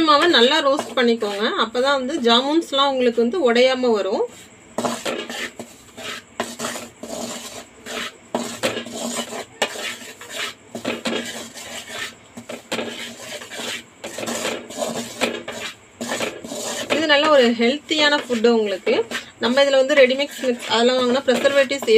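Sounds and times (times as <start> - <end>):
wooden spatula scraping metal pan: 0.0 - 3.3, 4.2 - 21.9.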